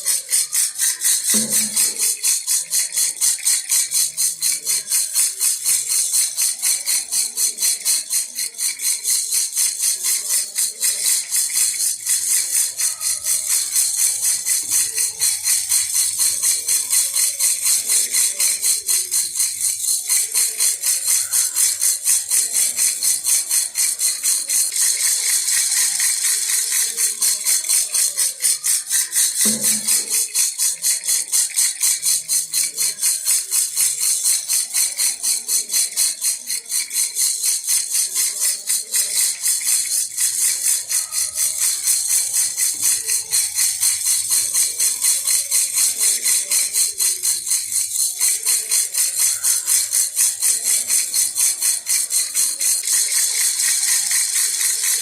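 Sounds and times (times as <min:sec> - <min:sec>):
baby rattle shaking: 0:00.0 - 0:55.0.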